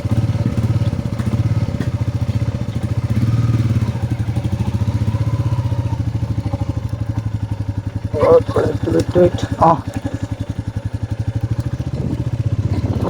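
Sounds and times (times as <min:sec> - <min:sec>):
motorcycle engine thumping: 0:00.0 - 0:13.0.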